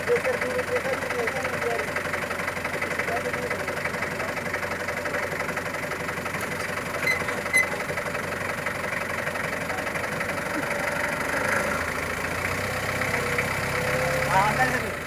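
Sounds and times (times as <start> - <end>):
forklift engine idling: 0.0 - 15.0.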